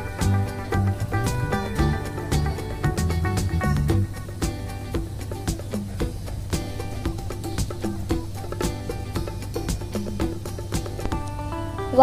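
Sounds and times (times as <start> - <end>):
bass line: 0.0 - 10.9
background music with steady beat: 0.0 - 12.0
short plucked notes: 0.0 - 12.0.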